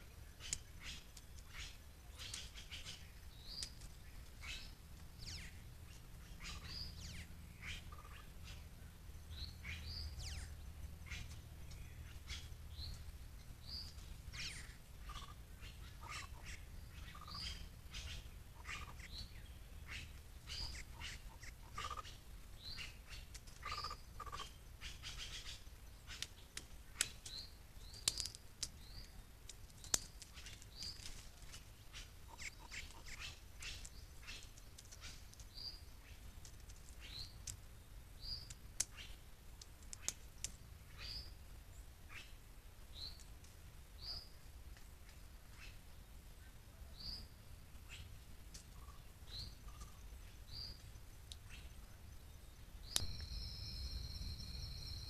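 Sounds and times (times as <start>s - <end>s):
birds chirping: 0.0s - 39.2s, 40.0s - 55.0s
low steady hum: 0.0s - 55.0s.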